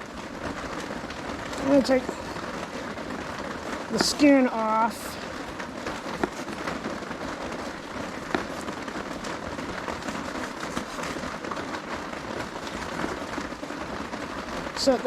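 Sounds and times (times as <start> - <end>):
heavy rain on a tarp: 0.0 - 15.0.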